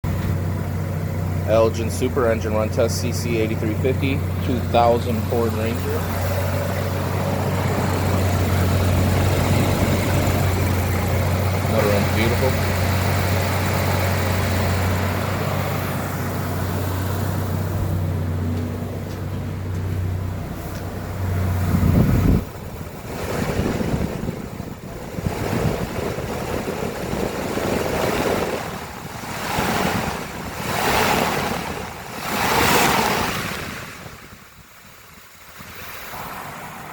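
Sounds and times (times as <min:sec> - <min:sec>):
rushing wind noise: 0:00.0 - 0:18.5, 0:20.1 - 0:36.9
truck engine idling: 0:00.0 - 0:36.9.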